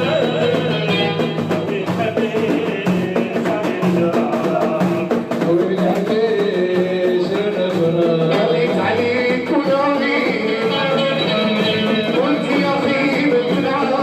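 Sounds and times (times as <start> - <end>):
live music with singing: 0.0 - 14.0.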